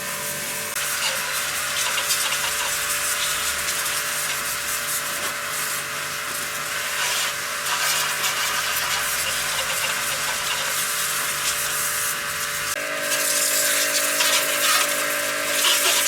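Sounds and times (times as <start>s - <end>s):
brush scrubbing a part: 0.9s - 15.0s, 15.6s - 16.0s.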